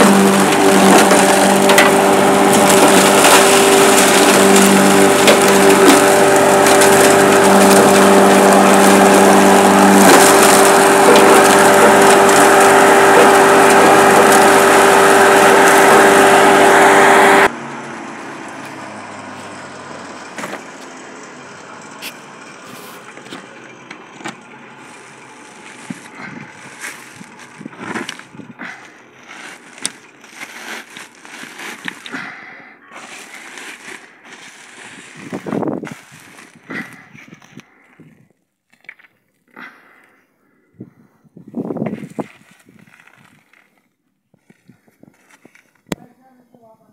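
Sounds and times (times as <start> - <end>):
feed mill grinding: 0.0 - 38.3.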